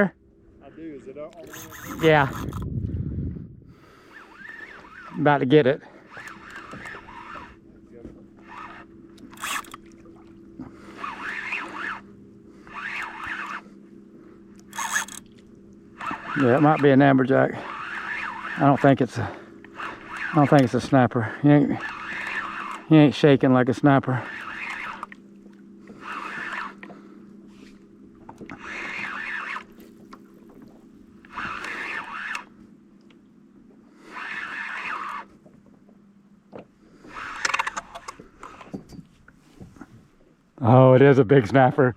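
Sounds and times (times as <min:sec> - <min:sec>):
fishing reel whirring: 0:00.0 - 0:02.8, 0:03.5 - 0:35.7, 0:36.8 - 0:38.8
steady low hum: 0:00.0 - 0:41.9.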